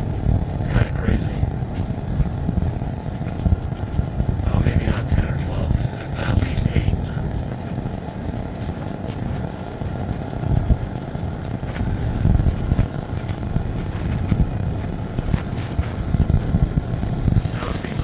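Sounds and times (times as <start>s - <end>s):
car engine and tyre rumble: 0.0s - 18.0s
faint ticks: 1.3s - 4.5s, 5.7s - 17.4s.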